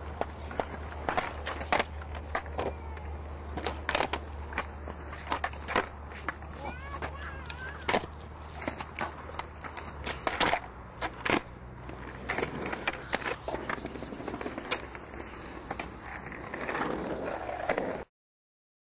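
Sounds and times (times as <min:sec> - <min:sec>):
skateboard clacking on concrete: 0:00.0 - 0:18.0
skateboard wheels rolling: 0:00.0 - 0:18.1.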